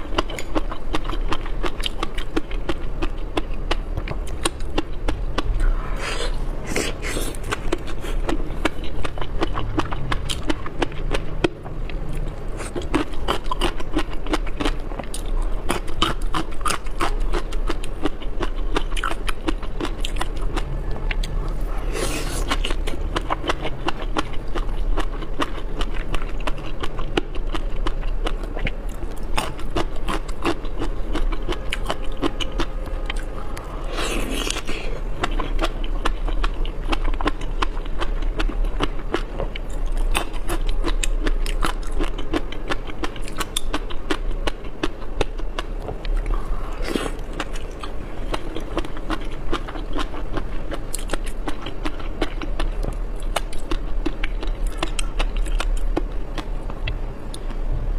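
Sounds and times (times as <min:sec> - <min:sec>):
wet chewing and biting: 0:00.0 - 0:57.6
low steady hum: 0:00.0 - 0:57.9.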